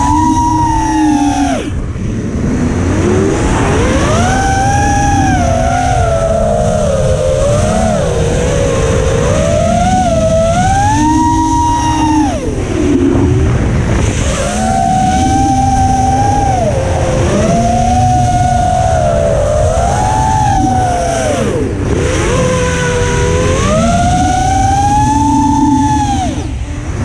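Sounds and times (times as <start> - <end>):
drone motors whining: 0.0 - 27.0
wind rush and vibration: 0.0 - 27.0.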